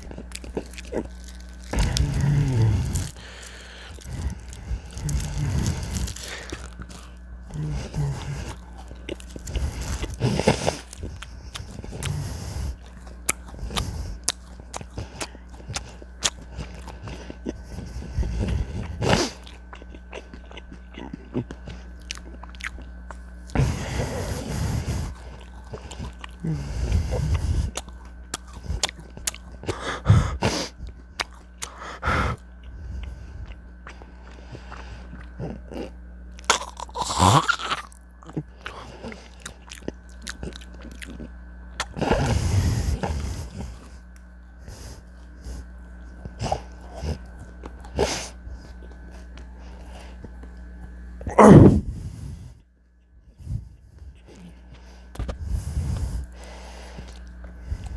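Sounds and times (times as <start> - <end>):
person chewing and biting: 0.0 - 52.0, 54.0 - 57.9
wet mouth sounds: 0.0 - 52.0.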